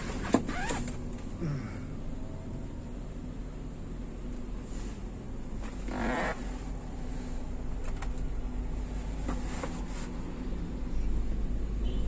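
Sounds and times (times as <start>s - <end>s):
air-conditioning blowers: 0.0s - 11.8s
car engine idling: 0.0s - 12.0s.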